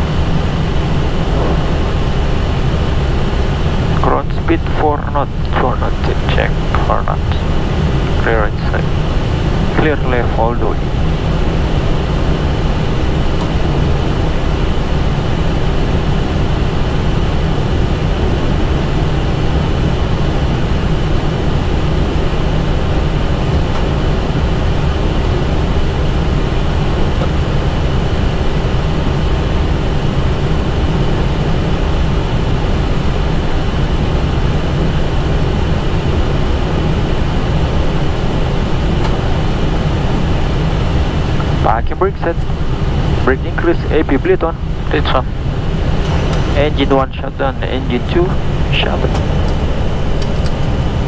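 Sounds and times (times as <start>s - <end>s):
aircraft cockpit low rumble: 0.0s - 51.0s
constant hum: 0.0s - 51.0s.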